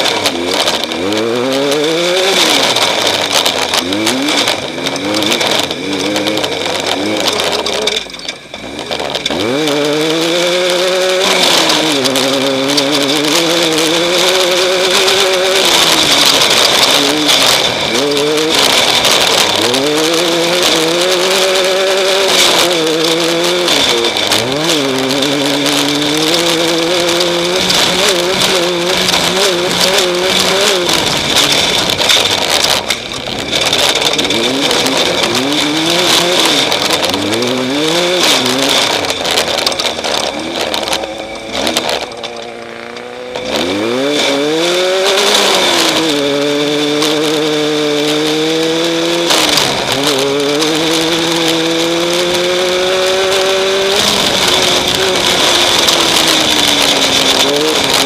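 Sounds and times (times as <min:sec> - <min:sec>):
constant rattling: 0:00.0 - 0:58.0
race vehicle engine revving: 0:00.0 - 0:58.0
steady high whine: 0:00.0 - 0:58.0.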